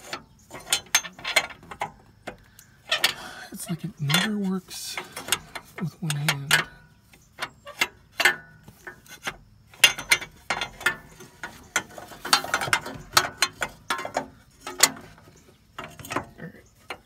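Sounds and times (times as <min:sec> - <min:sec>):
metal tube clattering against metal: 0:00.0 - 0:17.0.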